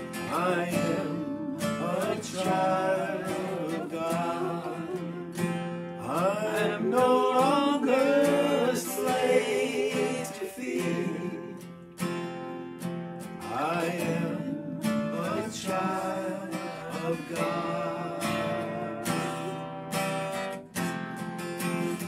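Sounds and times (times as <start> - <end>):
men singing: 0.0 - 11.6, 13.4 - 19.6
acoustic guitar strumming: 0.0 - 22.0.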